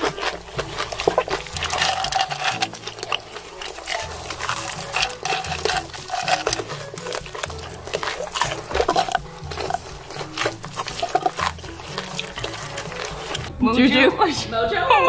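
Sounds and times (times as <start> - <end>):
wet chewing and lip smacking: 0.0 - 13.6.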